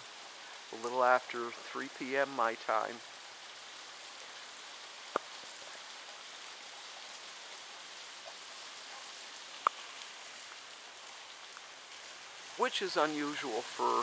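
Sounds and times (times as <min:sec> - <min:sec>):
heavy rain on asphalt: 0:00.0 - 0:14.0.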